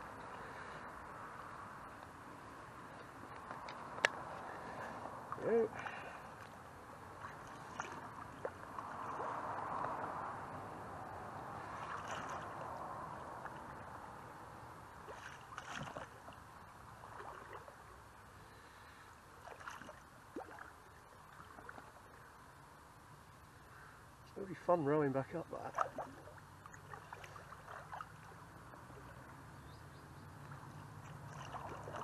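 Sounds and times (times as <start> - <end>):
paddle swishing through water: 0.0 - 22.2, 25.6 - 29.5, 30.3 - 32.0.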